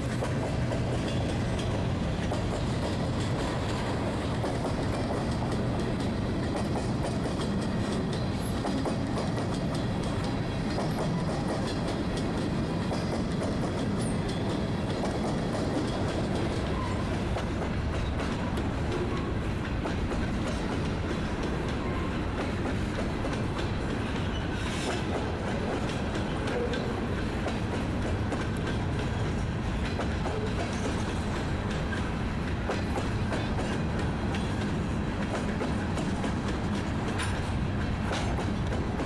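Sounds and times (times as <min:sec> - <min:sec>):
clickety-clack over rail joints: 0:00.0 - 0:39.0
train wheels rumbling on rail: 0:00.0 - 0:39.0.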